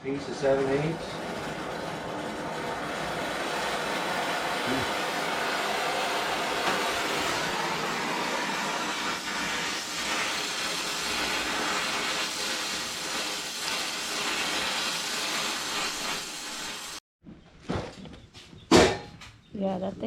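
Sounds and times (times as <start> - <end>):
torch flame hissing: 0.1 - 17.0.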